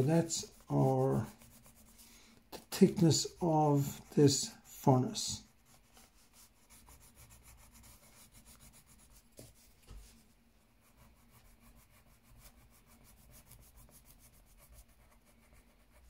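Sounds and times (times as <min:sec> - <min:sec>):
pencil scratching on paper: 0:00.0 - 0:10.1, 0:10.8 - 0:16.0.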